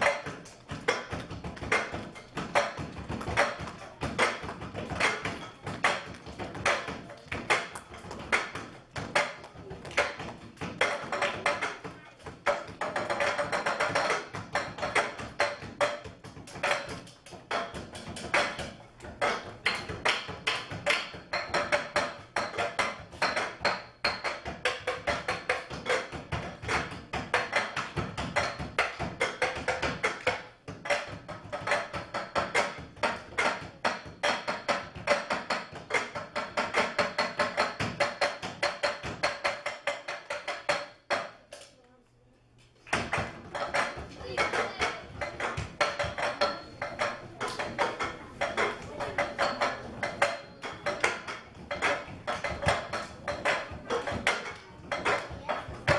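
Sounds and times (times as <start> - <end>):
cups struck and tapped rhythmically: 0.0 - 41.8, 42.6 - 55.9.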